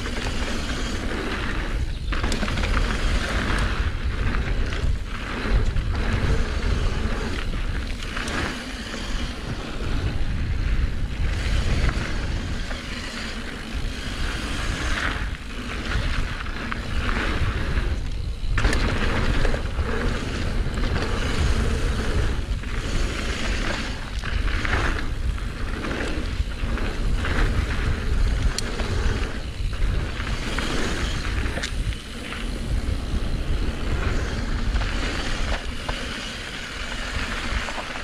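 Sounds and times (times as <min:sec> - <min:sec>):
bike rattling over bumps: 0:00.0 - 0:38.0
bike tyres rolling over dirt: 0:00.0 - 0:38.0
wind rumble on microphone: 0:00.0 - 0:38.0.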